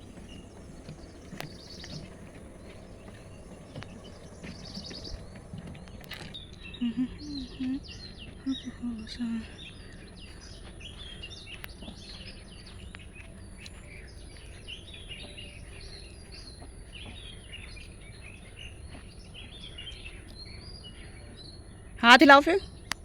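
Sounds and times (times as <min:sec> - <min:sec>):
birds chirping and twittering: 0:00.0 - 0:23.0
low background noise: 0:00.0 - 0:23.0.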